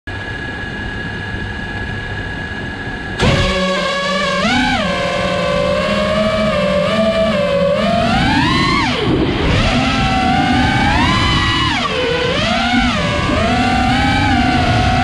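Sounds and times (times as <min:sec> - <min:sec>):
drone motors whining: 0:00.1 - 0:15.0.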